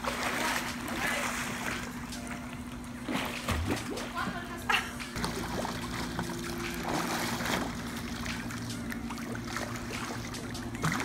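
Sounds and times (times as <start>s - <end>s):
pool water sloshing and trickling: 0.0s - 11.0s
steady low hum: 0.0s - 11.0s.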